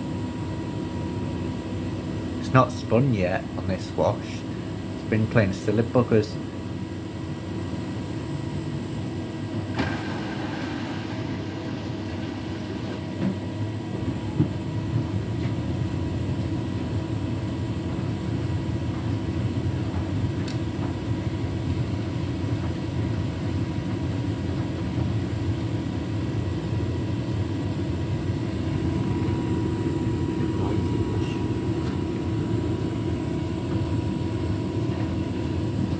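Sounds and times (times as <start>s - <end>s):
washing machine running: 0.0s - 35.9s.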